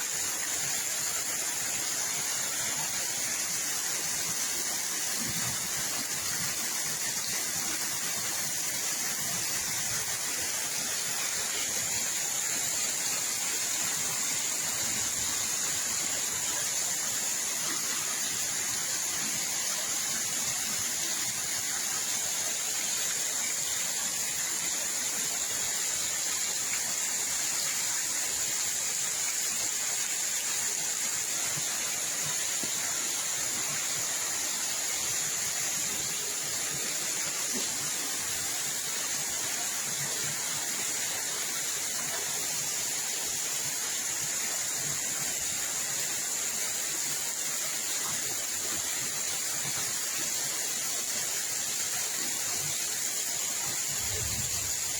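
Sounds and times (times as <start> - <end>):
rushing water from heavy rain: 0.0 - 54.9.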